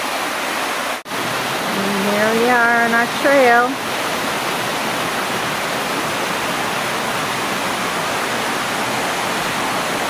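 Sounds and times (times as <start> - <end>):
stream water rushing over rock: 0.0 - 10.0.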